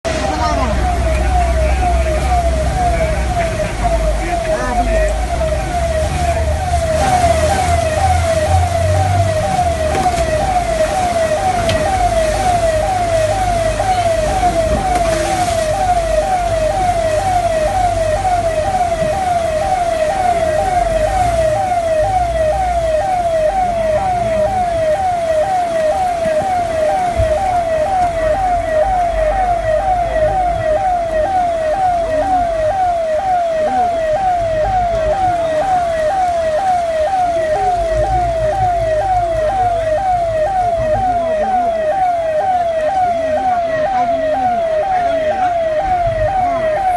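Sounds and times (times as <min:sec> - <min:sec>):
electronic siren wailing: 0:00.0 - 0:46.9.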